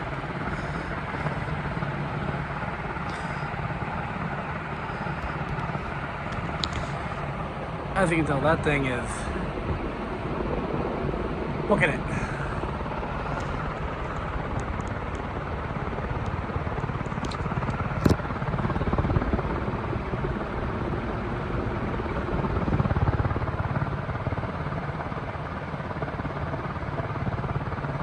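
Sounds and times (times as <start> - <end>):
ceiling fan rushing air: 0.0 - 28.0.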